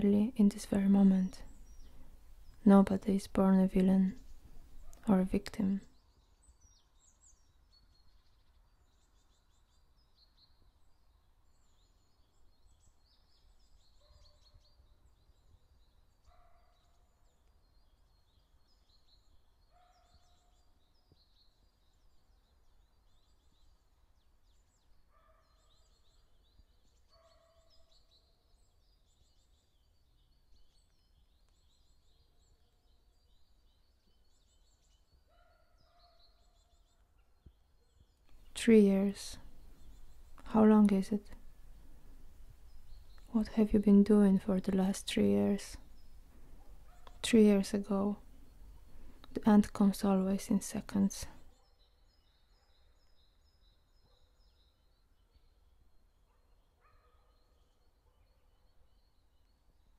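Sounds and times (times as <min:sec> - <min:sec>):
small birds twittering: 0:00.0 - 0:59.9.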